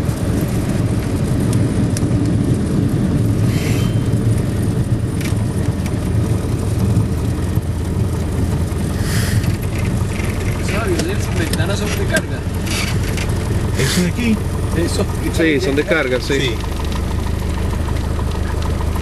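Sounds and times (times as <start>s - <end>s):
aircraft engine drone in cabin: 0.0s - 19.0s.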